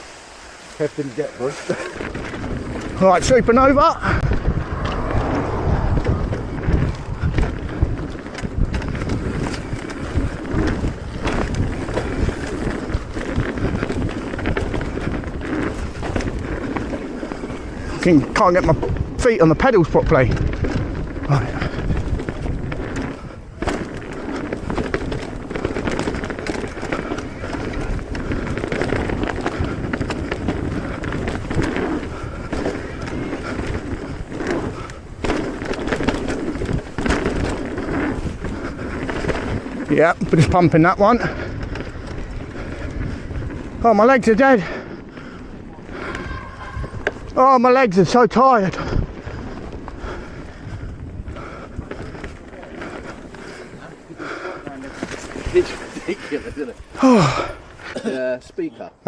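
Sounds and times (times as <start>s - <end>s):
wind rushing over microphone: 0.0s - 58.0s
bike tyres rumbling on dirt trail: 0.0s - 58.9s
bike knocks and rattles: 1.1s - 4.7s, 6.0s - 47.4s, 48.8s - 58.2s.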